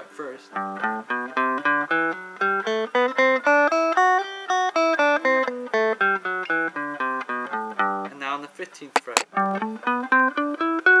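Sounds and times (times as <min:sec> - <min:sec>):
electric guitar playing a scale: 0:00.5 - 0:08.1, 0:09.3 - 0:11.0.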